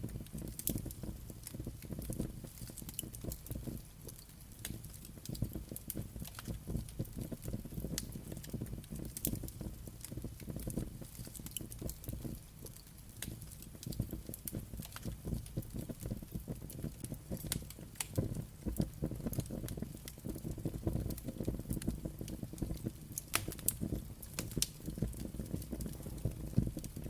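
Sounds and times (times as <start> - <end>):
low rumble of burning: 0.0 - 27.0
pops and snaps of fire: 0.0 - 27.0
wood fire crackling: 0.0 - 27.0.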